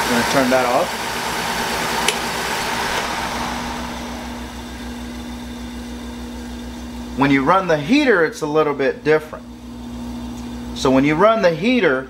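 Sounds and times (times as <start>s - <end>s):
blower motor winding down: 0.0s - 12.0s.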